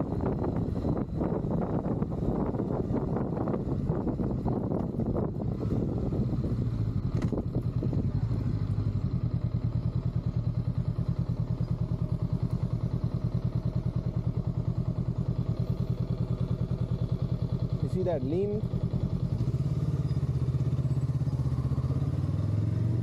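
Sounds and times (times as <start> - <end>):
motorcycle engine idling: 0.0 - 23.0
road and wind noise: 0.0 - 23.0.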